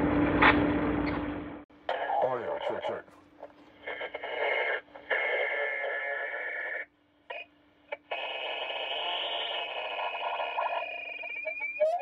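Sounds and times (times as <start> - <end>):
harsh noisy radio tone: 1.9 - 12.0.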